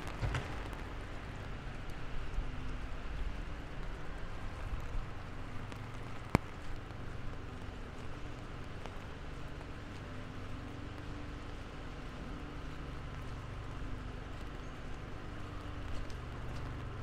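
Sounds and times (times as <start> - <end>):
low vehicle rumble: 0.0 - 17.0
rain pattering on street: 0.0 - 17.0.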